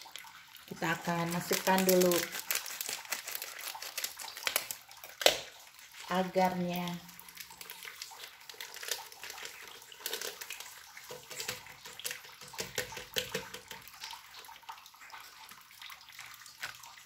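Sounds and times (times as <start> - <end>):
plastic sachet crinkling: 0.8 - 14.1, 16.1 - 17.0.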